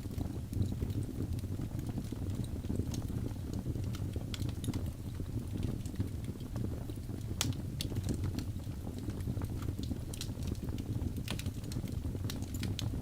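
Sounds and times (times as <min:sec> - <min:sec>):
burning logs crackling and popping: 0:00.0 - 0:13.0
low rumble of flames: 0:00.0 - 0:13.0.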